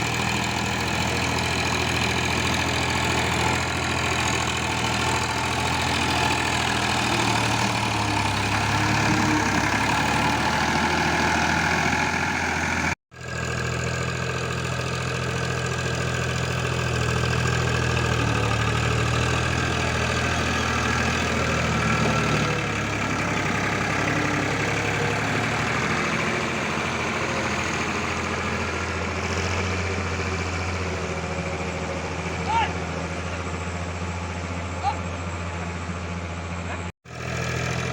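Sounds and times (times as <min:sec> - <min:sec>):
tractor diesel engine humming: 0:00.0 - 0:37.9.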